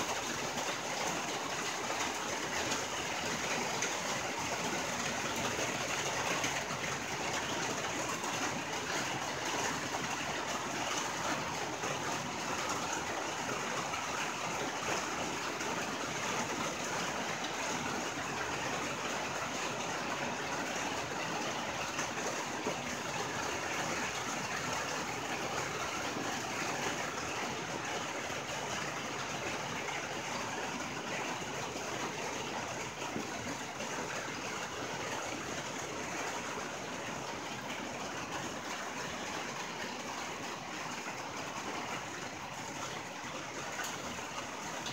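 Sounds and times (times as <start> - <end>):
rain on a tin roof: 0.0 - 44.9.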